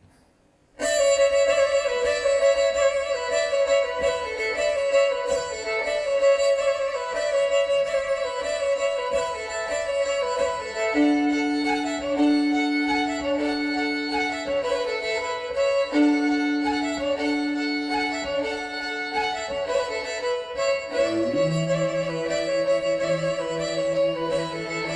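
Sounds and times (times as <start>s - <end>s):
bowed violin melody: 0.8s - 24.9s.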